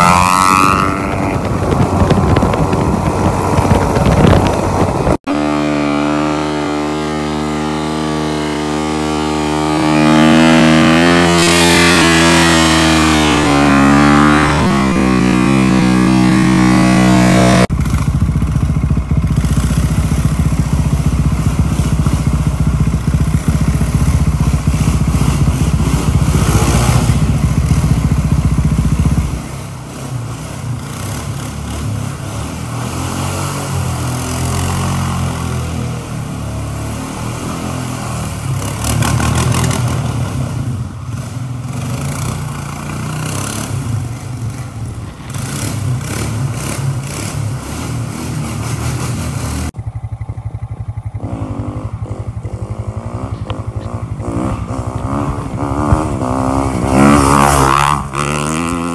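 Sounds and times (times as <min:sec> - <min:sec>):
atv engine revving: 0:00.0 - 0:58.9.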